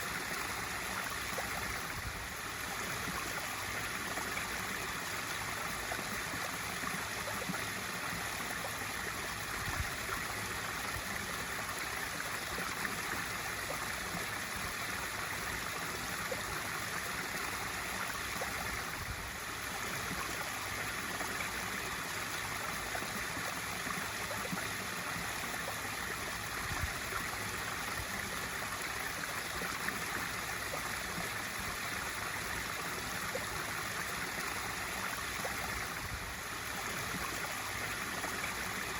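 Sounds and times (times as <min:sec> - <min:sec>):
waterfall pouring into pool: 0:00.0 - 0:38.9.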